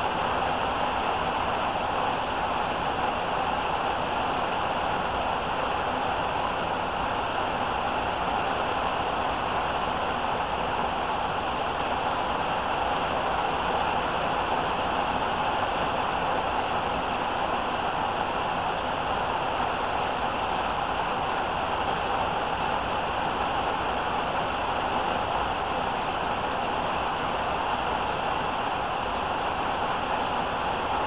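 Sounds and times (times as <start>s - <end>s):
heavy rain pouring: 0.0s - 31.0s.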